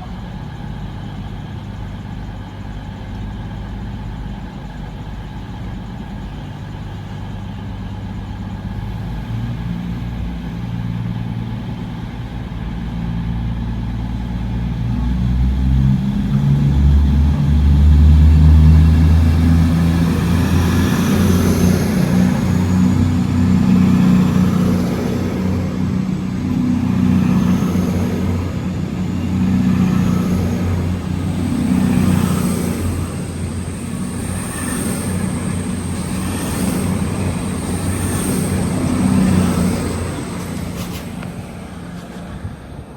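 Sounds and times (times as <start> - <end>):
faint high whine: 0.0 - 42.9
train diesel engines revving: 0.0 - 42.9.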